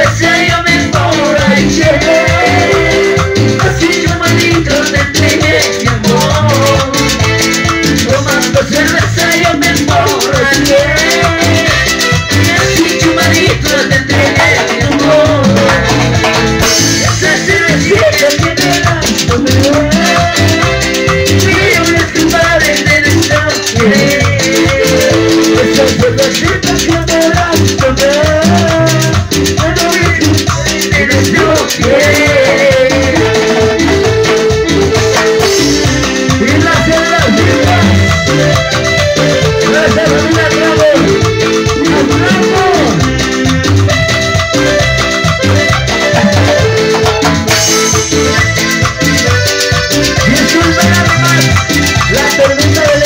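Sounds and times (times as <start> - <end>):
bass: 0.0 - 53.0
fast rattling percussion: 0.0 - 53.0
wavering melodic lead: 0.0 - 53.0.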